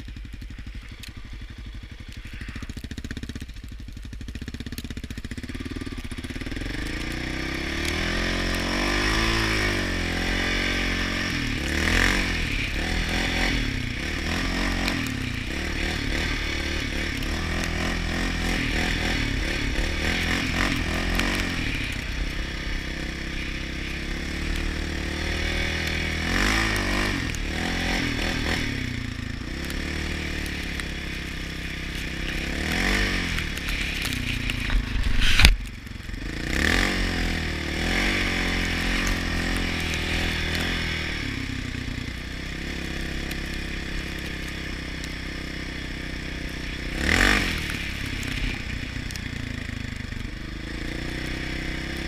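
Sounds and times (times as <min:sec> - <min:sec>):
quad engine revving: 0:00.0 - 0:52.0.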